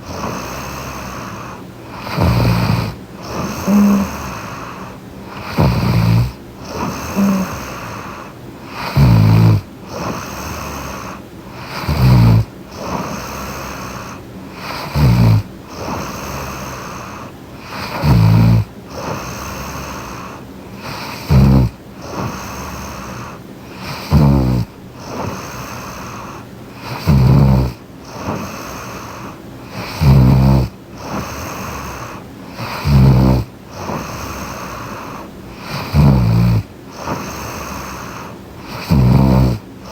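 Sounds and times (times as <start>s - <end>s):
soft breathing: 0.0s - 27.1s, 27.7s - 30.1s, 30.8s - 36.0s, 36.6s - 39.0s
woman snoring: 0.0s - 39.9s.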